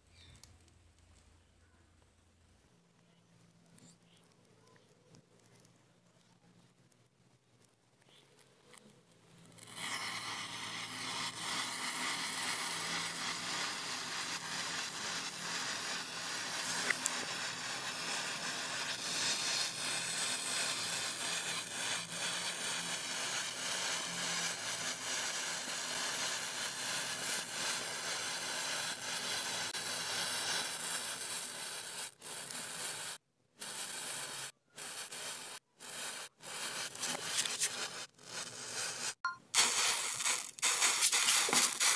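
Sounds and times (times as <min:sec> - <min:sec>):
matchsticks burning with crackling: 0:03.0 - 0:41.9.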